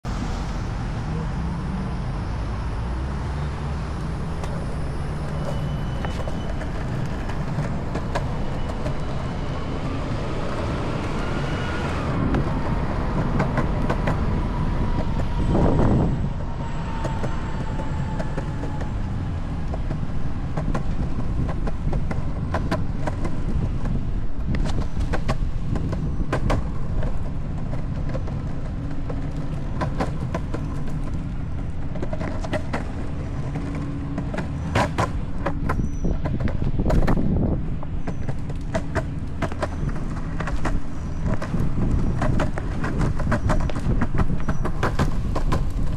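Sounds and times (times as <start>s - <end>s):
longboard wheels rumbling on concrete: 0.0s - 45.9s
wheels clacking over pavement joints: 3.4s - 45.9s.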